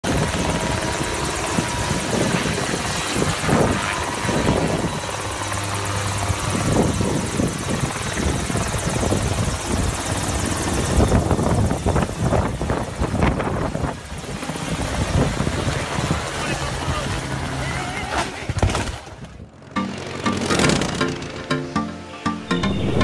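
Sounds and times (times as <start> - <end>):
helicopter rotor beating: 0.0 - 17.9, 19.5 - 21.6
helicopter engine noise: 0.0 - 18.1, 19.4 - 21.4.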